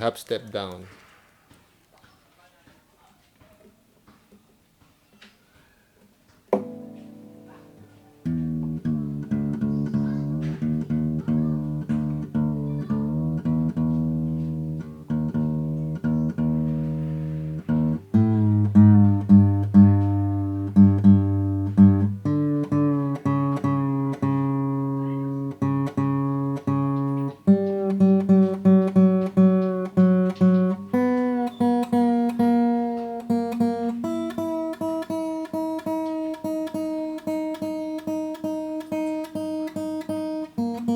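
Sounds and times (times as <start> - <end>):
acoustic guitar strumming chords: 6.5 - 40.9.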